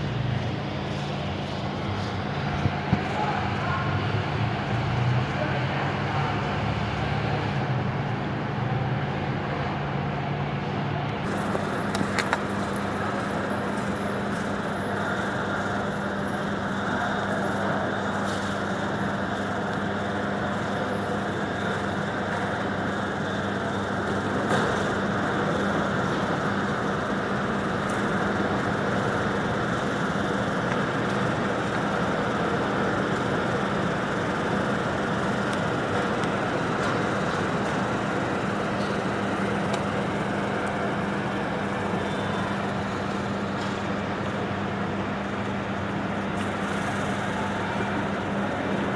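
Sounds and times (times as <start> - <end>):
bus engine hum: 0.0 - 48.9
traffic drone: 0.0 - 48.9.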